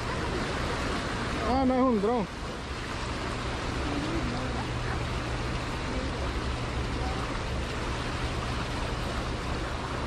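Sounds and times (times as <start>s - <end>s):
constant low hum: 0.0s - 10.0s
turbulent white water rushing: 0.0s - 10.0s.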